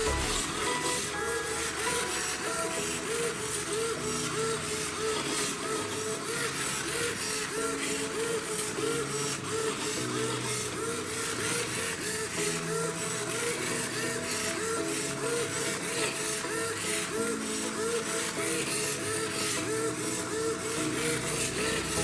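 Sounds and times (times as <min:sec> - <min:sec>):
background music: 0:00.0 - 0:22.0
small electric motor whirring in pulses: 0:00.0 - 0:22.0.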